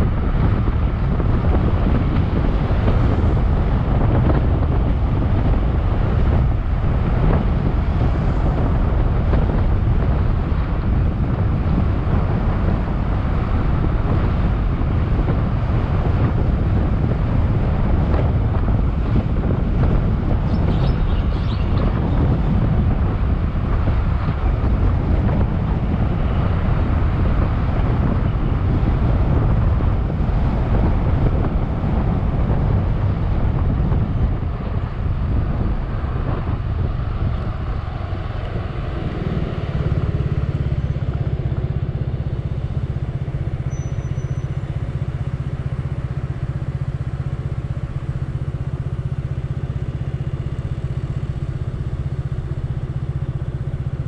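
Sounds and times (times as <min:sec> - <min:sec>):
scooter engine drone: 0:00.0 - 0:54.0
wind rush on microphone: 0:00.0 - 0:54.0.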